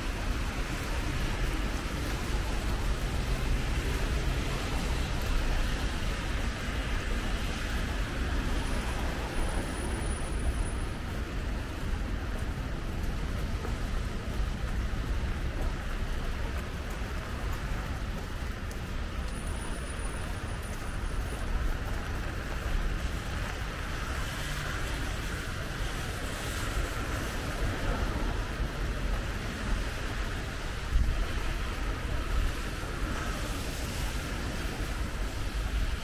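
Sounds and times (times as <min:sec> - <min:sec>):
car tyres swishing on wet road: 0:00.0 - 0:36.0.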